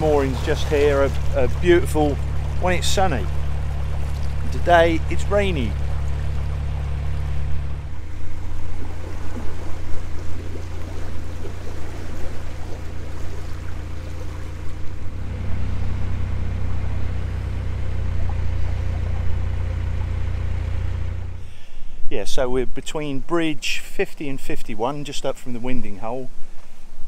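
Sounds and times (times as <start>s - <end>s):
boat engine droning: 0.0s - 22.4s.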